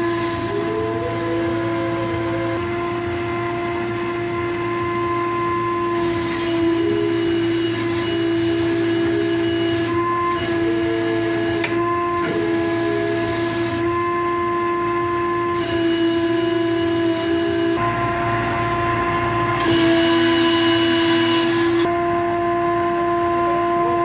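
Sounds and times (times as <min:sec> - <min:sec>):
machine whine: 0:00.0 - 0:24.0.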